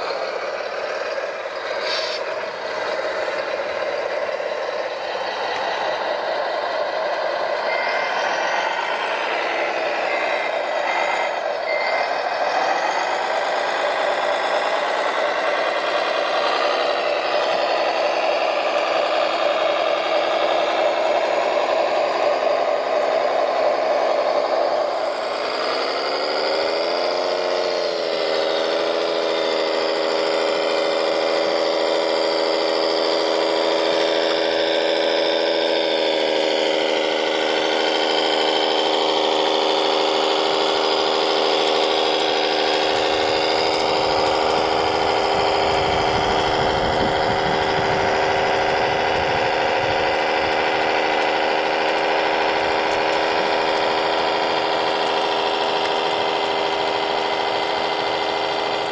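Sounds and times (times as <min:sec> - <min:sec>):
toy truck motor whine: 0:00.0 - 0:58.9.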